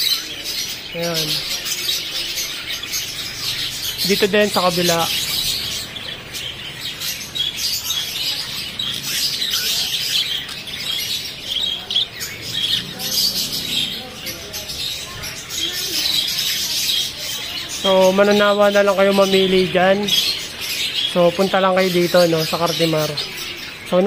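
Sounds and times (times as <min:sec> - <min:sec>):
budgerigars chattering and chirping: 0:00.0 - 0:24.0.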